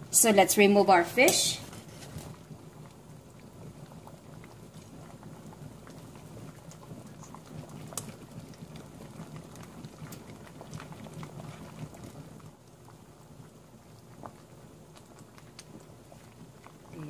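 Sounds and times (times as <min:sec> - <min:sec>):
soup bubbling: 0:00.0 - 0:17.0.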